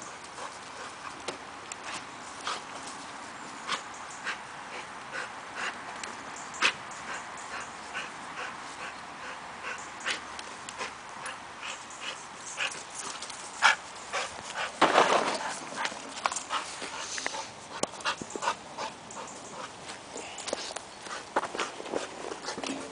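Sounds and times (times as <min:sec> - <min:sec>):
dog panting: 0:00.0 - 0:14.8, 0:15.4 - 0:22.9.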